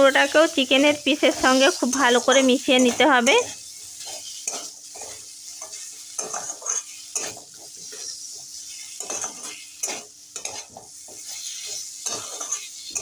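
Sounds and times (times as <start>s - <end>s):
food sizzling in oil: 0.0s - 13.0s
metal spatula scraping pan: 0.1s - 13.0s.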